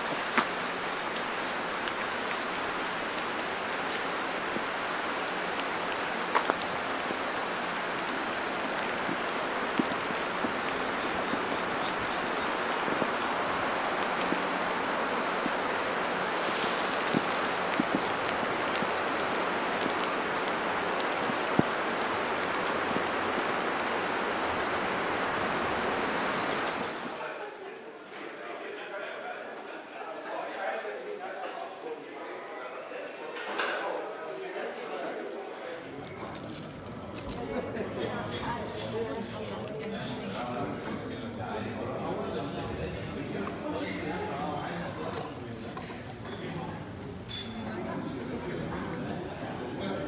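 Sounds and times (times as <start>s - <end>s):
rain falling: 0.0s - 27.8s, 28.8s - 50.0s.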